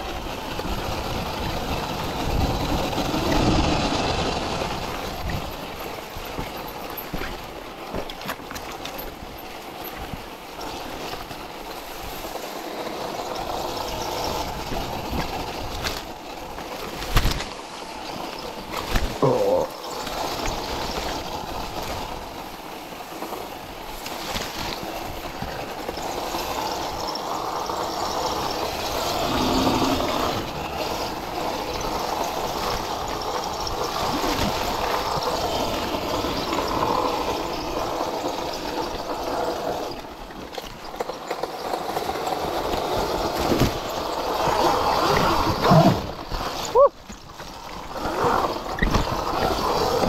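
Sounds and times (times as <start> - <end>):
wind and tyre noise: 0.0 - 50.0.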